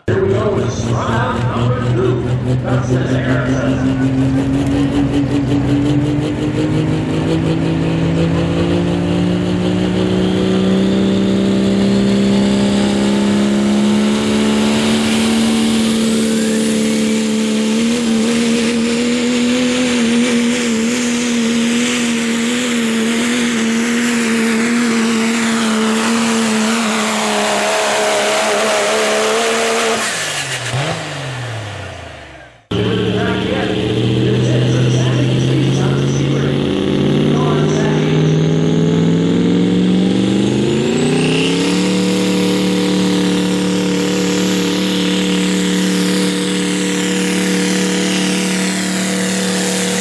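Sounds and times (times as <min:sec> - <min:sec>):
diesel truck engine at full throttle: 0:00.0 - 0:50.0.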